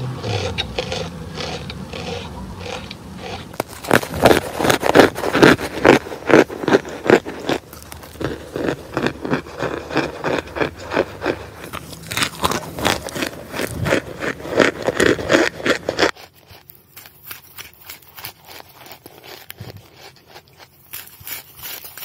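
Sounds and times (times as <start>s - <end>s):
starch chunks crunching: 0.0s - 22.0s.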